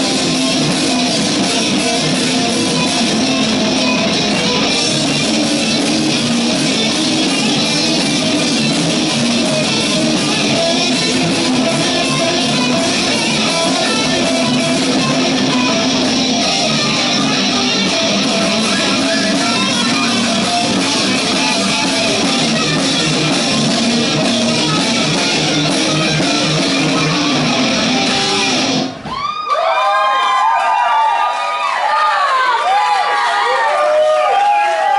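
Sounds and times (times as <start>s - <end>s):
heavy metal band playing live: 0.0s - 29.0s.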